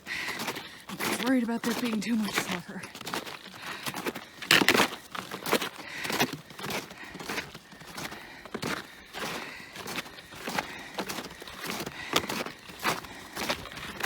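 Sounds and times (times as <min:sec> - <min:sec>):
crunching footsteps on trail: 0:00.0 - 0:14.0.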